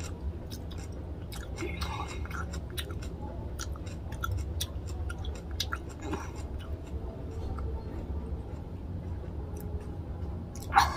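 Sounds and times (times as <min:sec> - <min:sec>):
wet chewing: 0:00.0 - 0:09.9
low steady hum: 0:00.0 - 0:10.9.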